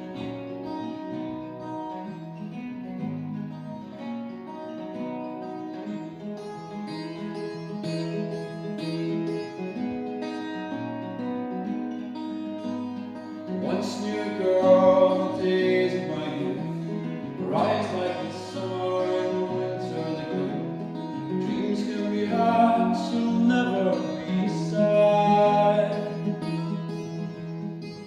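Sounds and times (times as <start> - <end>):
acoustic guitar chords strummed: 0.0 - 28.0.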